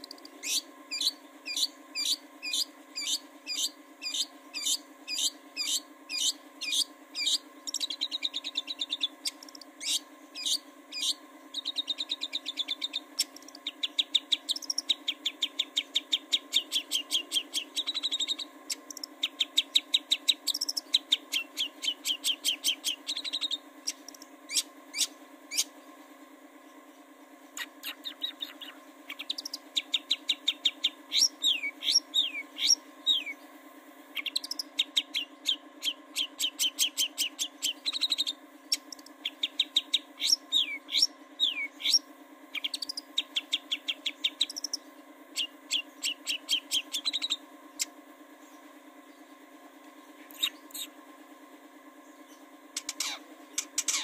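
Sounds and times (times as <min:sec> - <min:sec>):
shrike singing: 0:00.0 - 0:25.8, 0:27.5 - 0:33.5, 0:34.2 - 0:47.9, 0:52.1 - 0:54.0.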